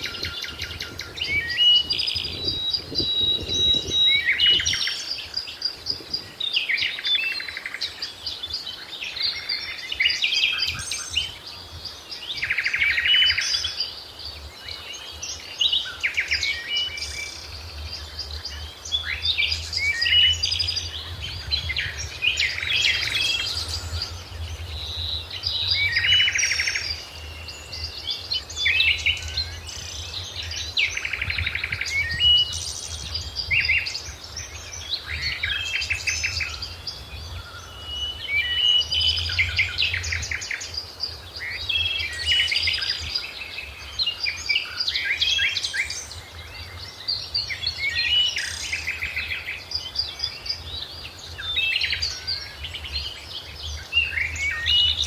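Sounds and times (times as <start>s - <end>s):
birds chirping and trilling: 0.0s - 55.0s.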